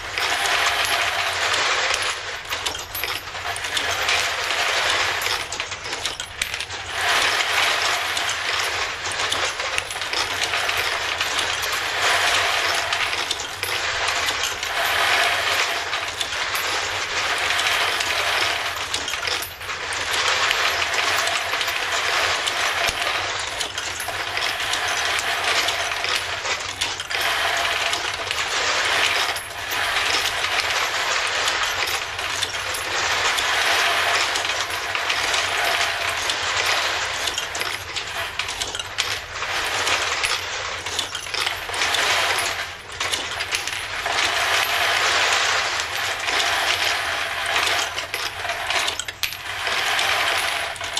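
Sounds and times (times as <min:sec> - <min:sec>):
metallic rattle of brass cases: 0:00.0 - 0:50.9.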